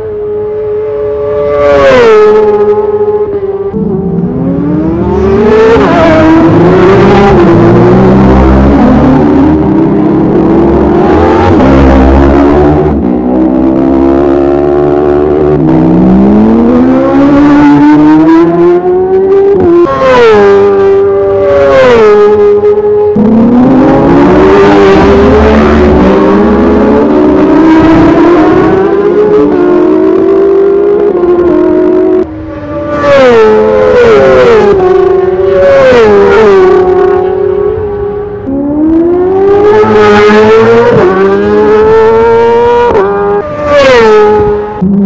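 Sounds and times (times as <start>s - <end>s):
racing motorcycle engine: 0.0s - 45.0s.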